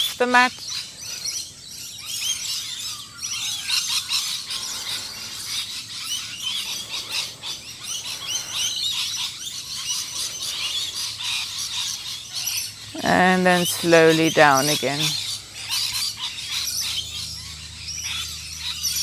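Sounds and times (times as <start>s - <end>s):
songbirds chirping chorus: 0.0s - 19.0s.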